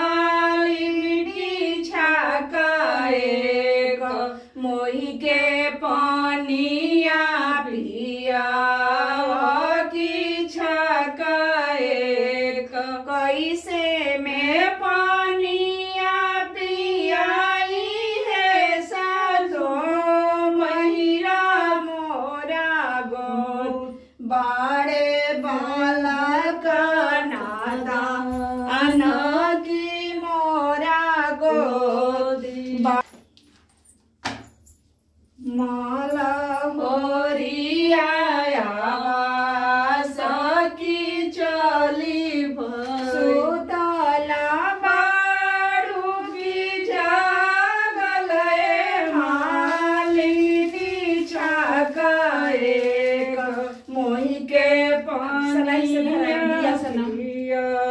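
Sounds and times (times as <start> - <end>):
women singing unaccompanied: 0.0 - 33.1, 35.4 - 57.9.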